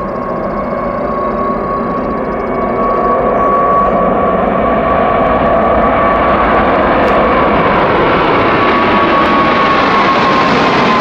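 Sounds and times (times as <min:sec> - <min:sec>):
jet engine roar with fan whine: 0:00.0 - 0:11.0.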